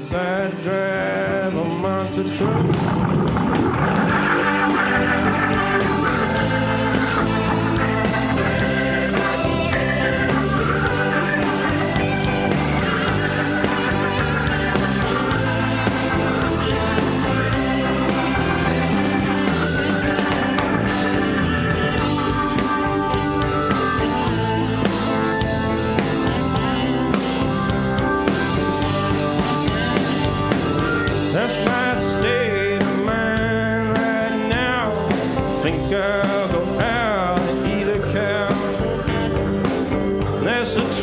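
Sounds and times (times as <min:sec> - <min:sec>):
electric guitar: 0:00.0 - 0:41.0
rock band playing: 0:00.0 - 0:41.0.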